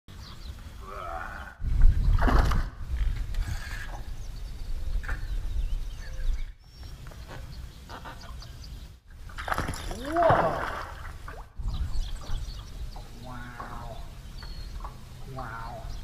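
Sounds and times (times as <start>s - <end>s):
wind buffeting microphone: 0.3s - 16.0s.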